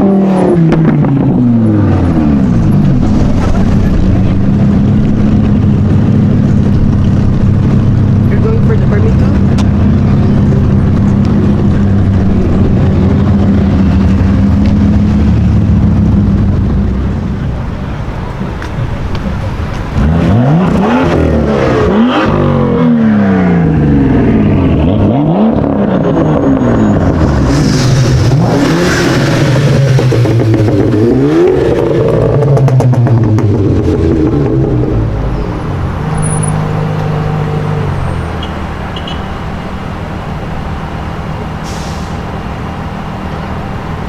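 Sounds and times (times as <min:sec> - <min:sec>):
car engine revving: 0:00.0 - 0:44.0.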